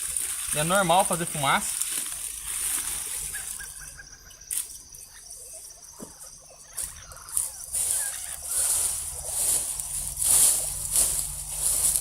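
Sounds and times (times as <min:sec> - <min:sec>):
campfire crackling and hissing: 0:00.0 - 0:05.3, 0:06.6 - 0:12.0.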